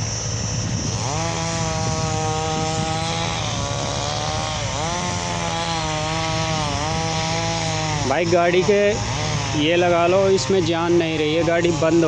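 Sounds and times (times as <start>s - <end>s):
hydraulic whine: 0.0s - 12.0s.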